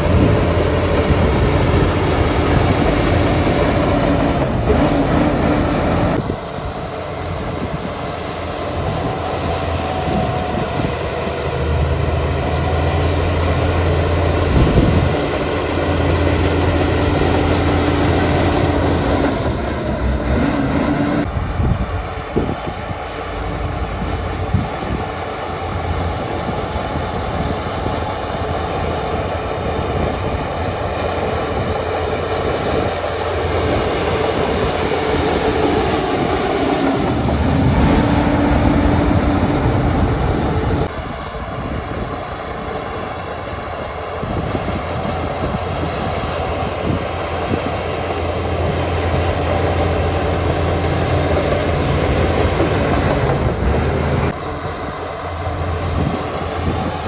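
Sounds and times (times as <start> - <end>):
heavy diesel machinery droning: 0.0 - 57.0.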